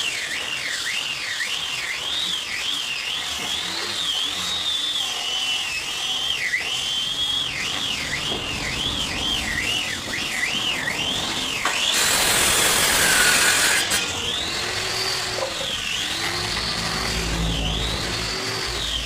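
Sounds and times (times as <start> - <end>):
warbling siren-like tone: 0.0 - 19.0
woodworking power tool running: 0.0 - 19.0.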